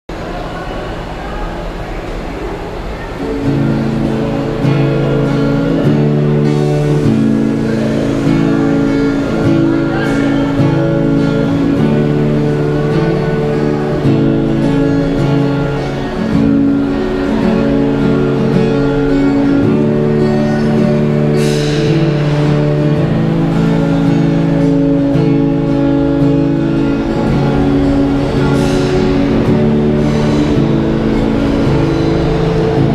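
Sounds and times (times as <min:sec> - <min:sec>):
acoustic guitar strumming chords: 0:02.6 - 0:32.9.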